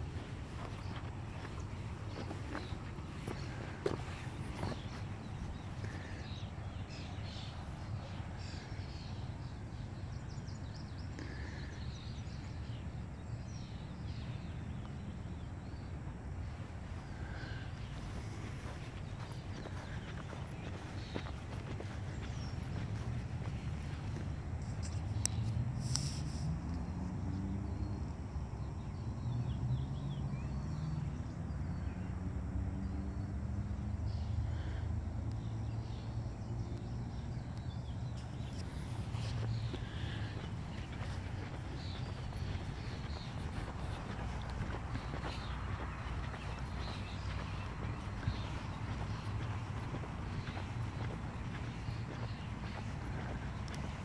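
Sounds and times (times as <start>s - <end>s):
bird chirps: 0.0s - 26.6s, 35.4s - 54.0s
low outdoor rumble: 0.0s - 27.0s, 33.5s - 54.0s.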